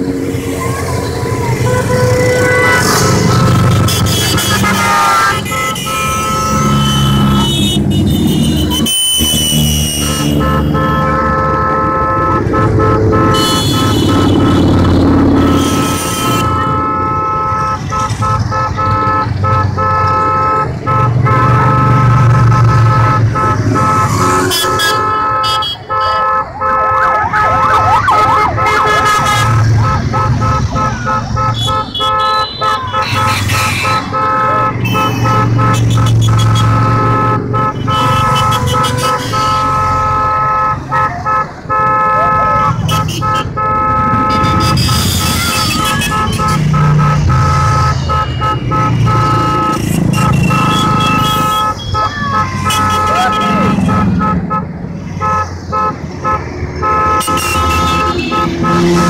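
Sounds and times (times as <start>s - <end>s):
engines revving: 0.0s - 59.0s
motorcycle horns blasting: 0.1s - 59.0s.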